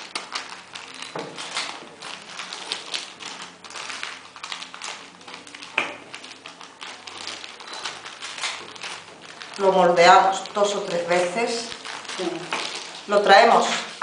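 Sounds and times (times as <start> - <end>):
bamboo mat clicking and rustling: 0.0 - 14.0.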